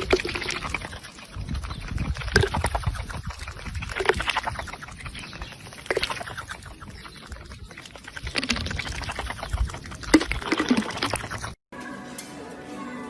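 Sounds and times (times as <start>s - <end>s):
duck bill clicks and slurps: 0.0s - 11.6s
splashy gulps: 0.0s - 11.6s.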